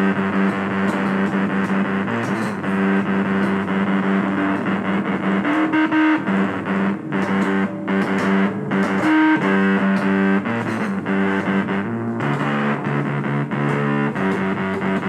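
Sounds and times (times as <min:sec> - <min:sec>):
distorted electric guitar riff: 0:00.0 - 0:15.0.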